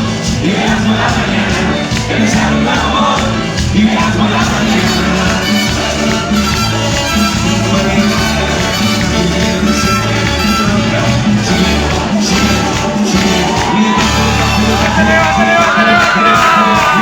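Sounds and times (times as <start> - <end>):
latin dance band music: 0.0 - 17.0.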